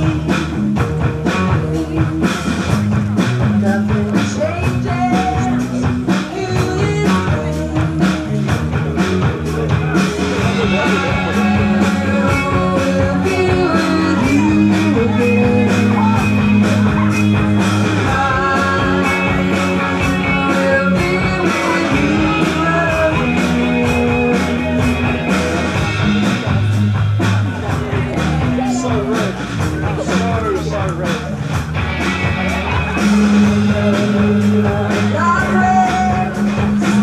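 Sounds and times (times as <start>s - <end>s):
band playing rock song: 0.0s - 37.0s
guitar: 0.0s - 37.0s
person singing: 0.0s - 37.0s
steady drum beat: 0.0s - 37.0s.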